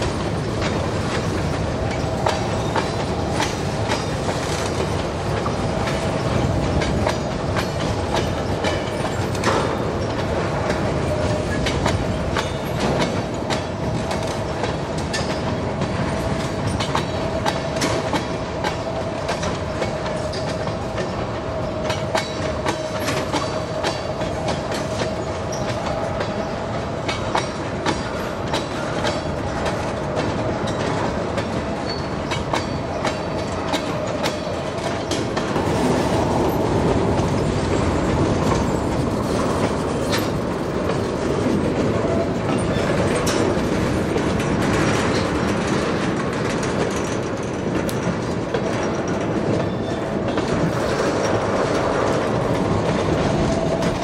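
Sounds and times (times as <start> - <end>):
train rumble: 0.0 - 54.0
train wheels clicking over rail joints: 0.0 - 54.0.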